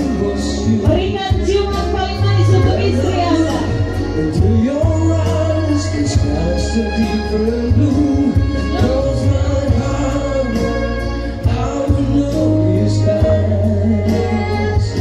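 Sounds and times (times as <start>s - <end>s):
bass line and accompaniment: 0.0s - 15.0s
person singing: 0.0s - 15.0s.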